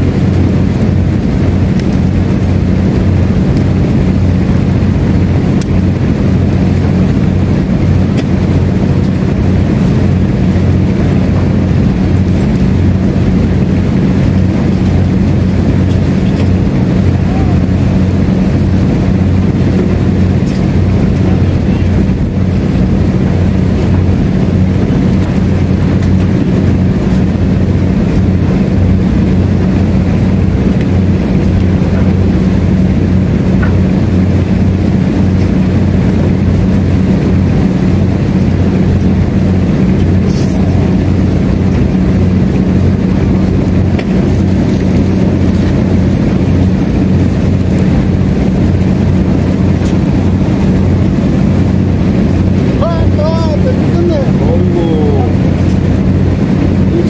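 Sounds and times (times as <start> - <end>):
engine droning: 0.0 - 57.0.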